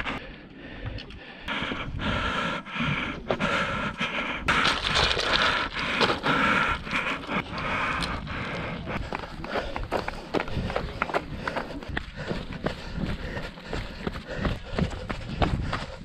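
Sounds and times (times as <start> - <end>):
person panting hard: 0.0 - 16.0.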